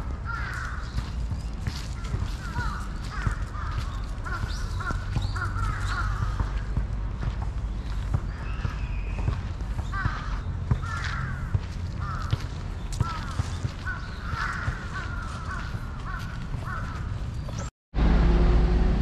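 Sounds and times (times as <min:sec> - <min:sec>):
crows cawing: 0:00.0 - 0:06.8, 0:08.3 - 0:17.2.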